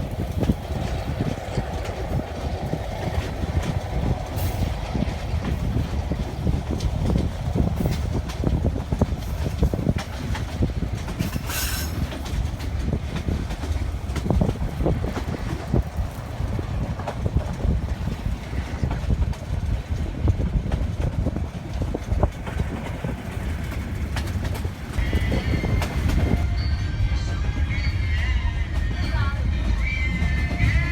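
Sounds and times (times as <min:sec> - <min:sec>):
wheels knocking and clattering: 0:00.0 - 0:26.4
train rumbling on track: 0:00.0 - 0:30.9.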